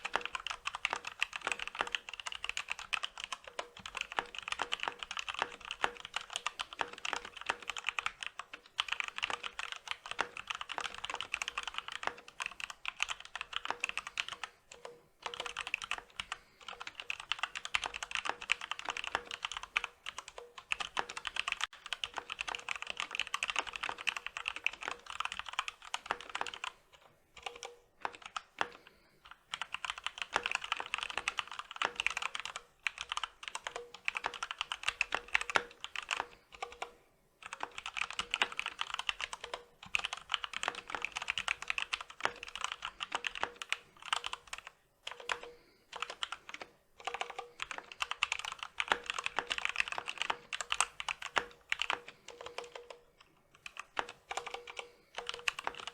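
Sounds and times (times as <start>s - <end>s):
mechanical keyboard typing: 0.0s - 55.9s.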